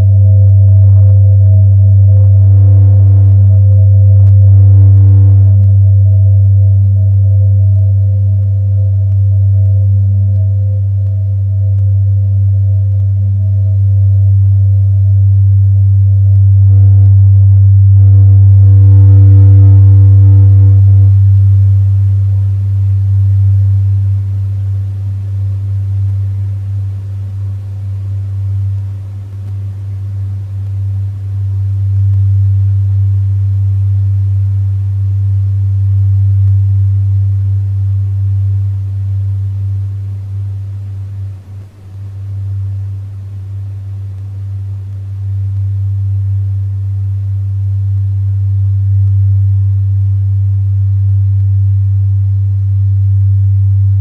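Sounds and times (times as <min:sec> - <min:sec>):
low synthesized drone: 0:00.0 - 0:54.0.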